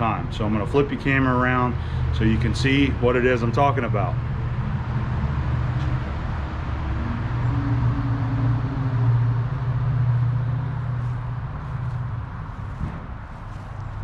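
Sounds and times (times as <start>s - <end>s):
road traffic rumble: 0.0s - 14.0s
vehicle passing: 0.4s - 14.0s.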